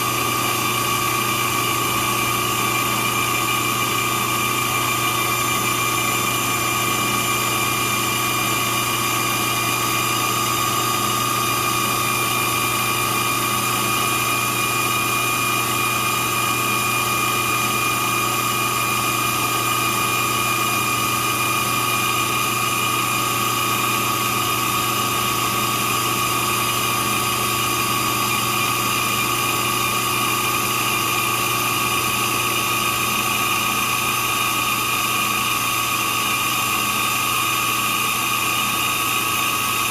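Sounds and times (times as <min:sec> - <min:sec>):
drill press motor hum: 0:00.0 - 0:39.9.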